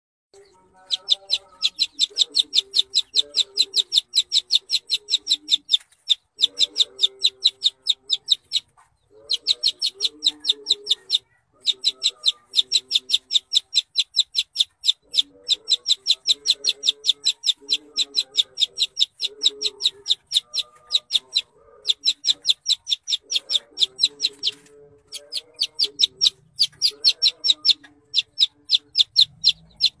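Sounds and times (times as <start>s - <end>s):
chick peeping: 0.4s - 30.0s.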